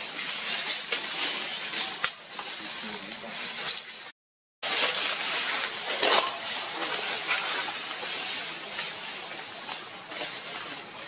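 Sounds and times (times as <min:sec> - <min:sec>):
leaves rustling: 0:00.0 - 0:11.0
steady hiss: 0:00.0 - 0:11.0.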